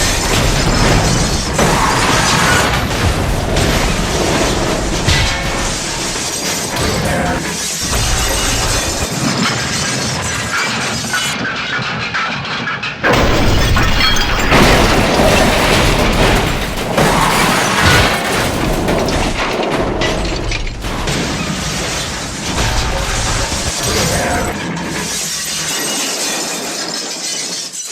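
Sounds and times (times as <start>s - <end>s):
cartoon crashes and shattering: 0.0s - 11.2s, 13.0s - 27.9s.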